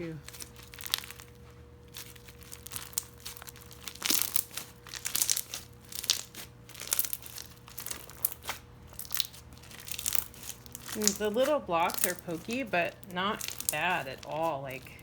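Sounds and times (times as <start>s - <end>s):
slime squishing and crackling: 0.0s - 15.0s.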